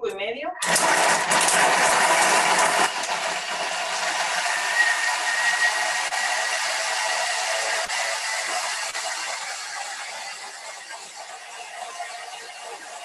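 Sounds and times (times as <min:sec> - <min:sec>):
blender chopping ice: 0:00.6 - 0:13.0.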